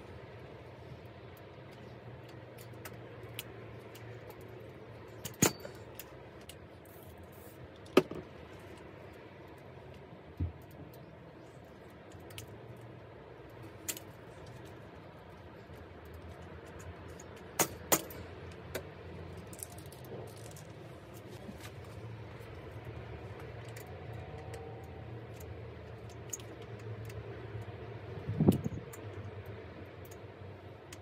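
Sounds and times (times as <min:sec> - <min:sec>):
bike parts clicking and knocking: 0:01.3 - 0:31.0.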